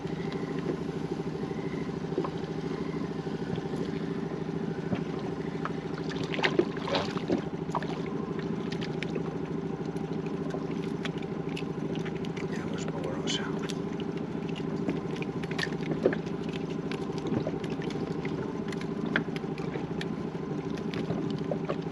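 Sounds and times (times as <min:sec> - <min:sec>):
motor droning: 0:00.0 - 0:21.9.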